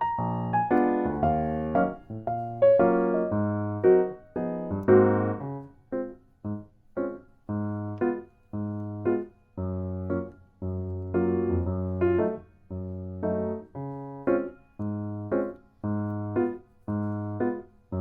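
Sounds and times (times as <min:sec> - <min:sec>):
light keyboard tune: 0:00.0 - 0:18.0.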